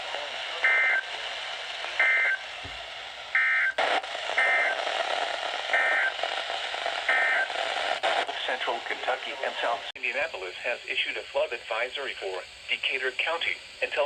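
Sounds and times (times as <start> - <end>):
steady radio hiss: 0.0 - 14.0.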